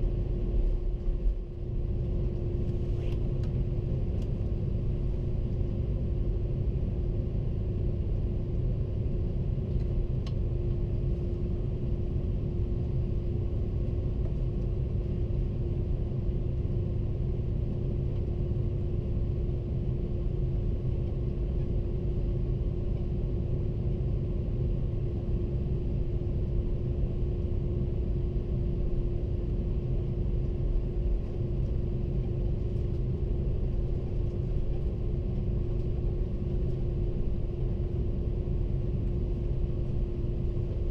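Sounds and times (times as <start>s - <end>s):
constant hum: 0.0s - 40.9s
jet engine cabin rumble: 0.0s - 40.9s.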